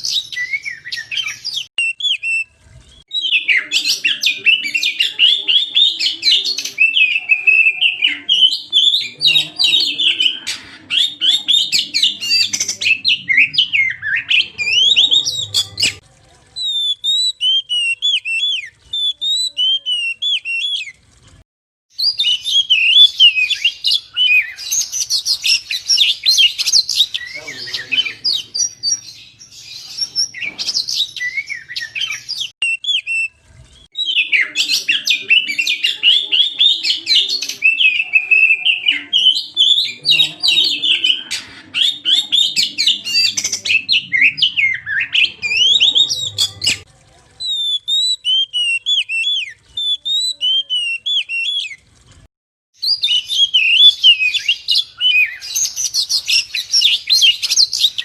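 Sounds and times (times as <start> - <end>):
bird singing whistles and chirps: 0.0 - 16.0, 16.6 - 21.0, 22.0 - 33.3, 33.9 - 46.8, 47.4 - 51.8, 52.8 - 58.0.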